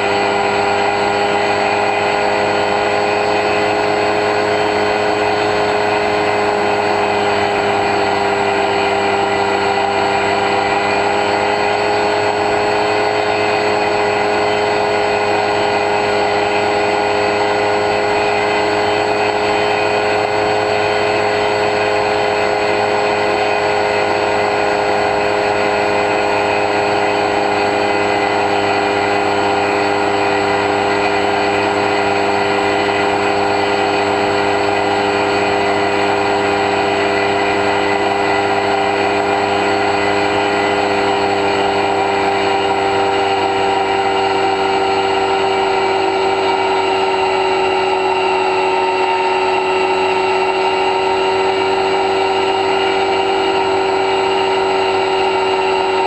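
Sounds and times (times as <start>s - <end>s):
model plane motor whine: 0.0s - 56.0s.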